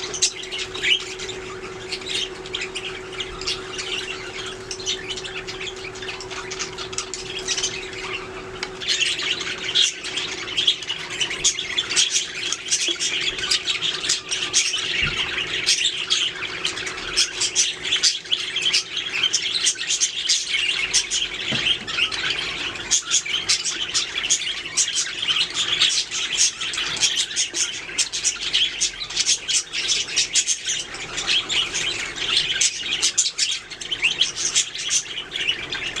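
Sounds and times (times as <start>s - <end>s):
budgerigars chirping and squawking: 0.0s - 36.0s
faint steady hum: 0.0s - 36.0s.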